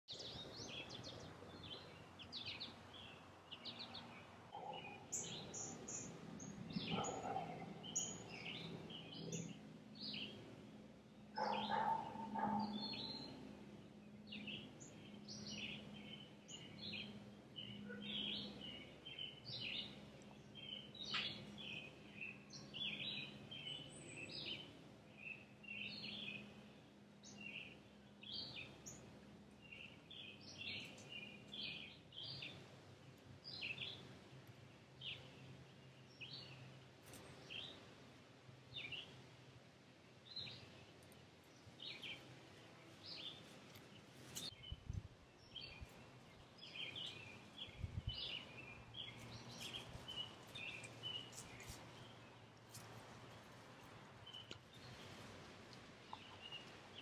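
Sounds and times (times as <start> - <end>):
small birds chirping and singing: 0.1 - 38.0, 38.6 - 39.4, 40.1 - 57.0.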